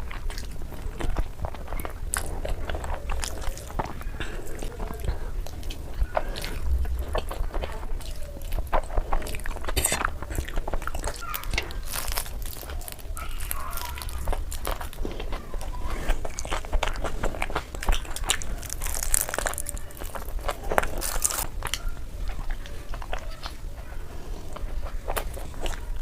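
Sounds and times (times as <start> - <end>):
person chewing noodles: 0.0 - 26.0.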